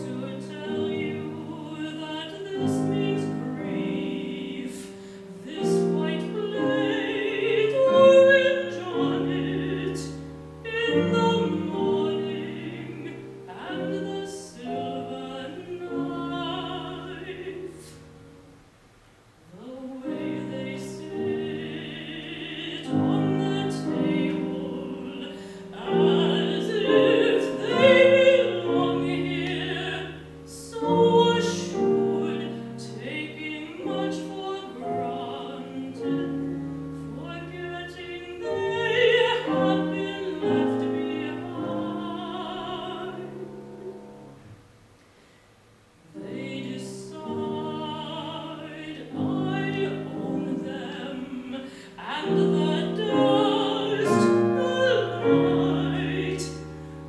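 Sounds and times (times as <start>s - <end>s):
woman singing with vibrato: 0.0s - 18.2s, 19.5s - 44.4s, 46.0s - 57.0s
piano accompaniment: 0.0s - 18.7s, 19.6s - 45.1s, 46.0s - 57.0s.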